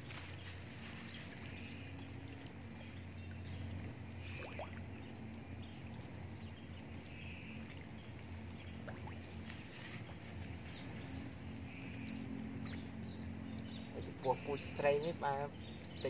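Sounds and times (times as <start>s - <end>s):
water sloshing and splashing: 0.0s - 15.8s.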